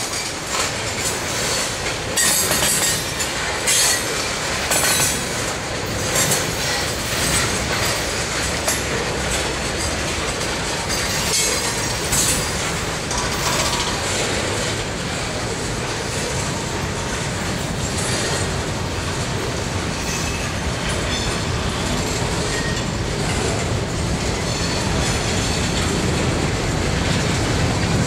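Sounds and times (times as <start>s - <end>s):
train rail rumble: 0.0s - 28.0s
wheel clacks over rail joints: 0.0s - 28.0s.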